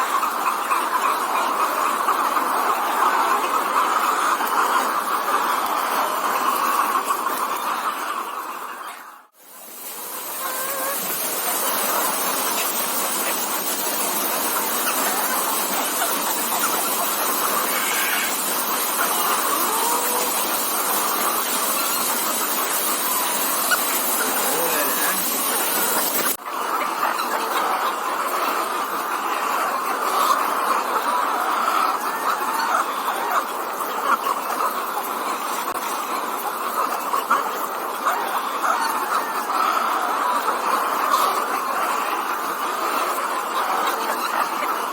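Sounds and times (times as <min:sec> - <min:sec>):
hens clucking: 0:00.0 - 0:44.9.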